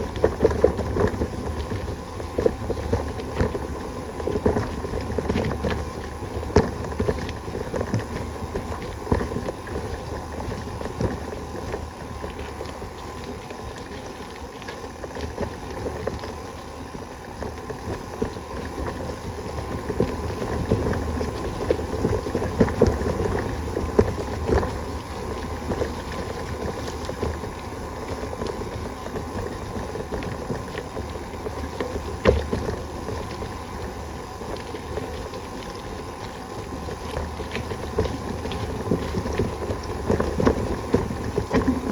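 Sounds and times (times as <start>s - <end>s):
bicycle rattling over rough ground: 0.0s - 41.9s.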